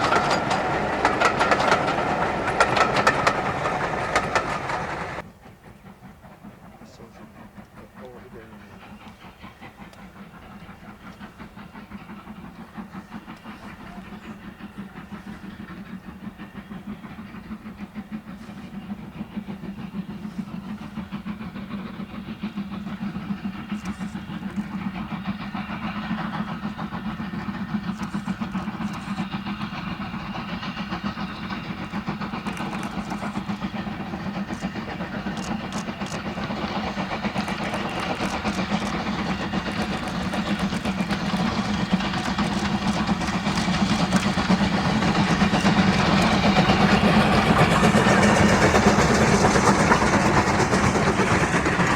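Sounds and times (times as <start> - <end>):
steam locomotive exhaust beats: 0.0 - 51.9.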